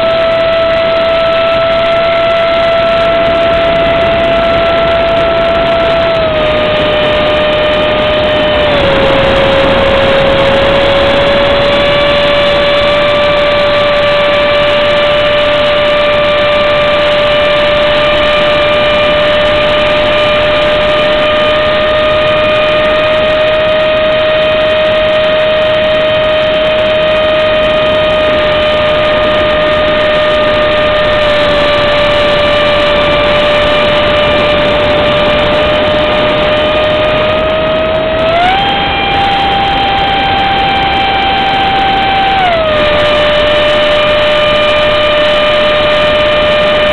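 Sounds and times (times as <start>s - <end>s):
electric motor whining: 0.0s - 46.9s
rush of air: 0.0s - 46.9s.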